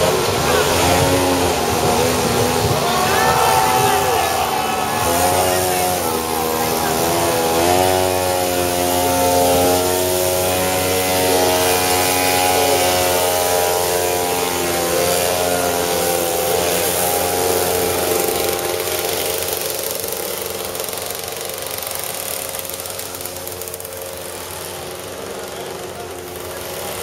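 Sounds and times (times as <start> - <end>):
small engine running at high revs: 0.0 - 27.0.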